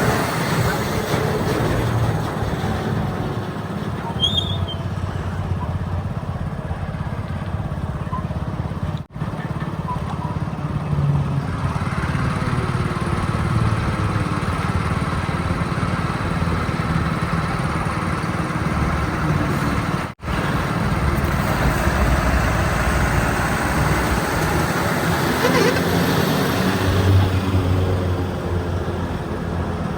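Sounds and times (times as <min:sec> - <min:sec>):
diesel machinery rumbling: 0:00.0 - 0:29.9.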